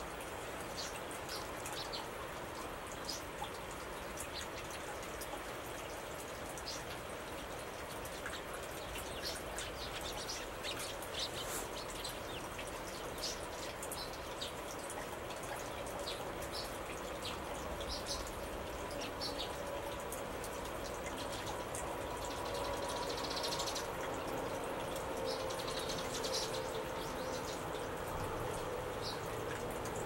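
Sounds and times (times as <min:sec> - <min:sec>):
steady outdoor hiss: 0:00.0 - 0:30.0
small birds chirping: 0:00.7 - 0:02.2, 0:05.8 - 0:28.4, 0:29.0 - 0:29.7.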